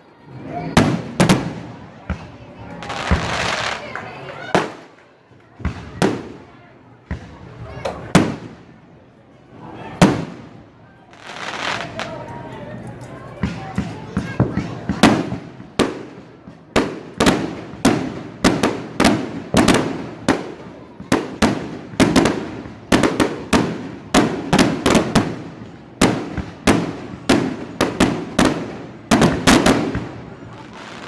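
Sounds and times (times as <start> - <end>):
fireworks bangs: 0.6 - 8.8, 9.9 - 12.3, 13.3 - 31.0.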